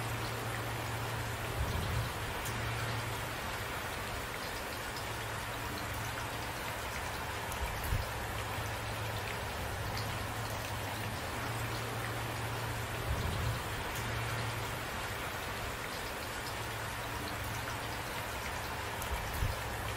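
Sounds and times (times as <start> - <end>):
steady rain falling: 0.0 - 19.9.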